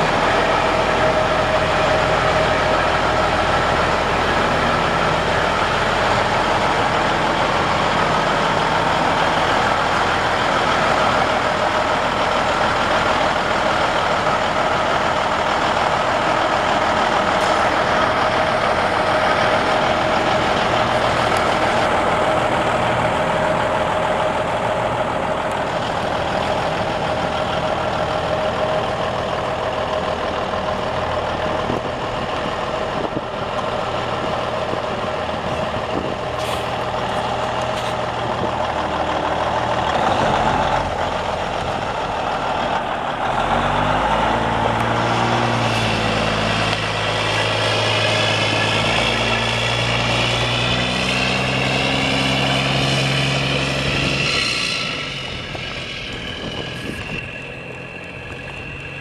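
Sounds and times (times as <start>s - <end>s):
steady whine: 0.0s - 59.0s
truck diesel engine running: 0.0s - 59.0s.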